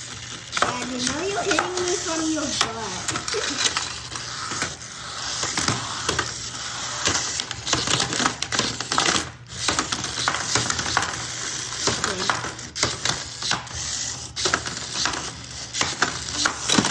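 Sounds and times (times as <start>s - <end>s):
toy robots clattering in plastic arena: 0.0s - 16.9s.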